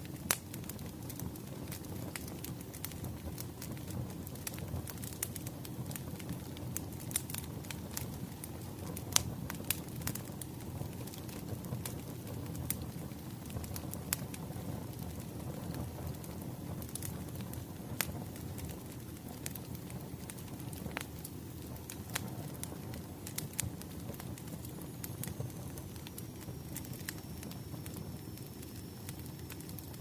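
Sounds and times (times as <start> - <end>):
sharp fire pops and snaps: 0.0 - 30.0
wood fire crackling: 0.0 - 30.0.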